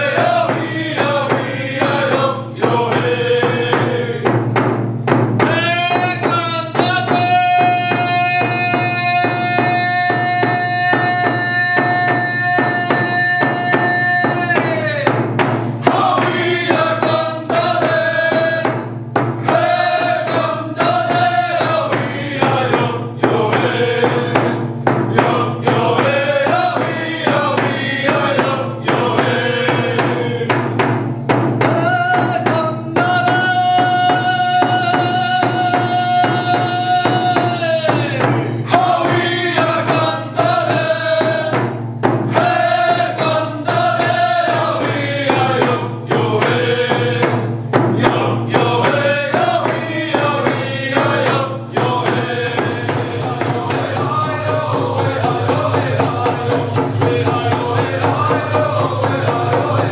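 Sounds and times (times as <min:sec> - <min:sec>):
men chanting in unison: 0:00.0 - 0:04.7, 0:05.4 - 0:59.9
frame drums beating: 0:00.0 - 0:59.9.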